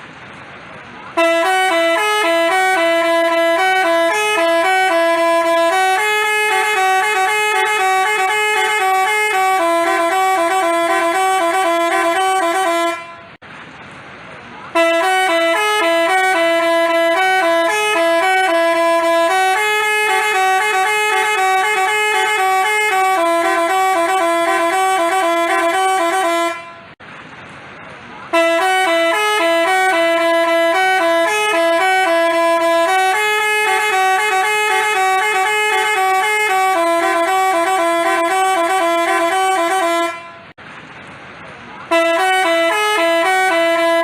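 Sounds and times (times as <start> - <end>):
musical bus horn playing tune: 1.1 - 13.4, 14.7 - 27.0, 28.3 - 40.6, 41.9 - 44.0.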